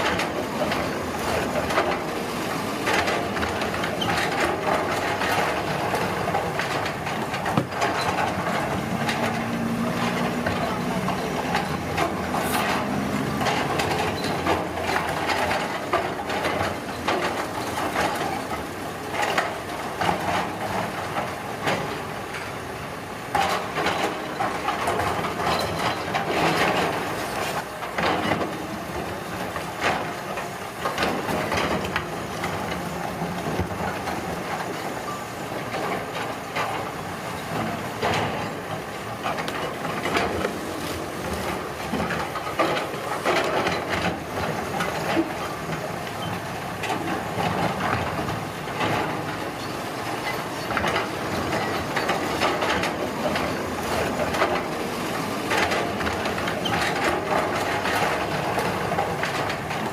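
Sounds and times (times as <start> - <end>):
construction machinery engine drone: 0.0 - 59.9.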